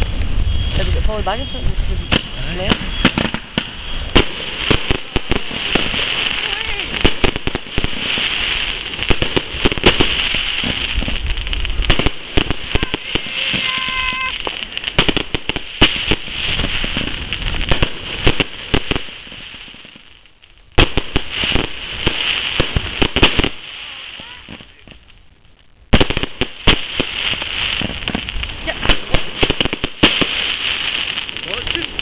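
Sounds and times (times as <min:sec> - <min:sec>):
fireworks bangs: 0:00.0 - 0:32.0
fireworks crackling: 0:00.0 - 0:32.0.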